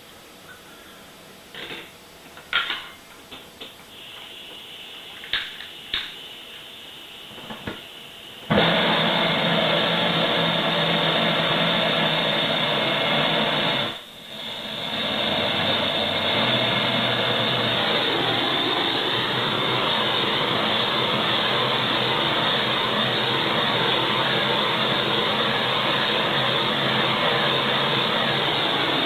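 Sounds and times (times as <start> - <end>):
gas torch flame hissing: 3.6 - 29.0.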